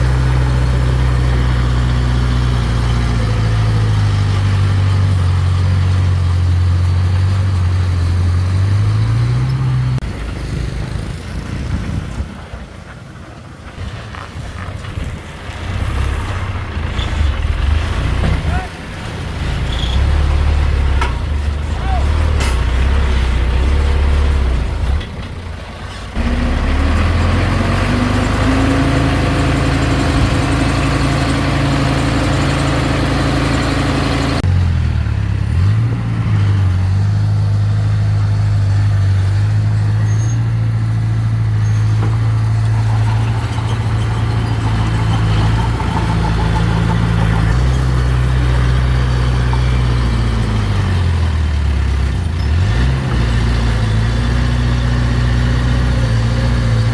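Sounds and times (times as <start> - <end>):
heavy diesel engine revving: 0.0 - 12.2, 14.9 - 56.9.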